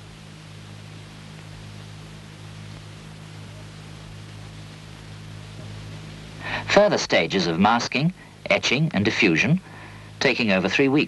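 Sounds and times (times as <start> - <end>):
low electrical hum: 0.0 - 11.0
tape hiss: 0.0 - 11.0.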